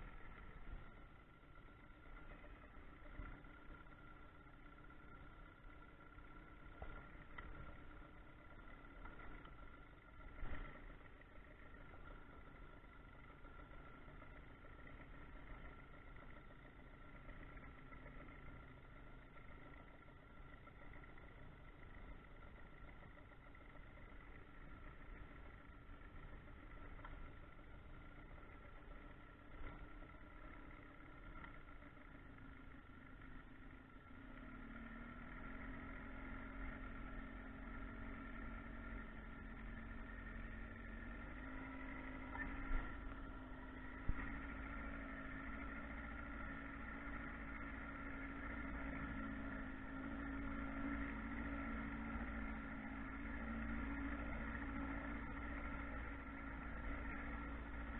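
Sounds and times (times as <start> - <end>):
boat motor running: 0.0 - 57.9.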